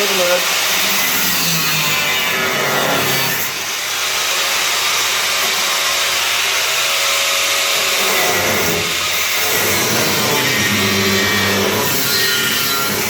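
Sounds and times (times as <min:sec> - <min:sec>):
power tool cutting metal: 0:00.0 - 0:13.0.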